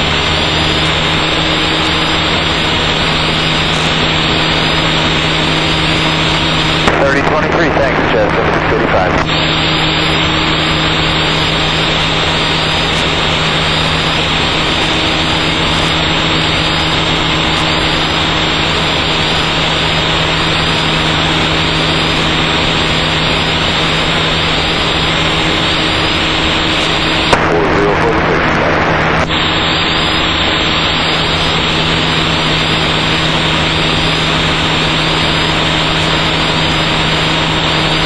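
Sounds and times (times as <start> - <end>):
aircraft cockpit noise over intercom: 0.0 - 38.0.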